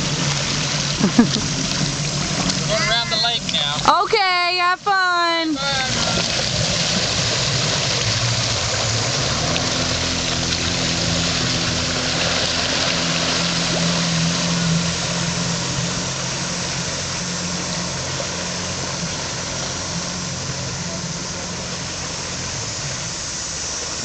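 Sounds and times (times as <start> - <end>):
personal watercraft engine running: 0.0 - 24.0.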